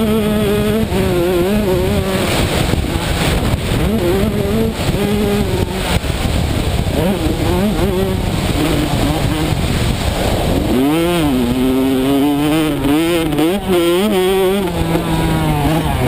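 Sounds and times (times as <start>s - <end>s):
motocross bike engine revving: 0.0s - 16.0s
wind rushing over microphone: 0.0s - 16.0s.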